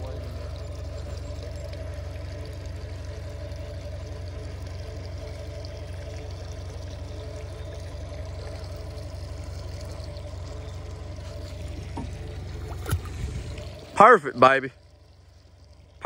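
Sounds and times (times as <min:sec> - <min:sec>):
moving water: 0:00.0 - 0:16.0
small boat motor humming: 0:00.0 - 0:16.0.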